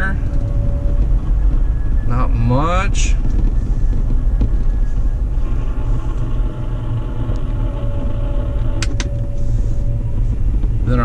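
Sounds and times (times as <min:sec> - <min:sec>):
steady tone: 0:00.0 - 0:11.0
vehicle road and drivetrain rumble: 0:00.0 - 0:11.0.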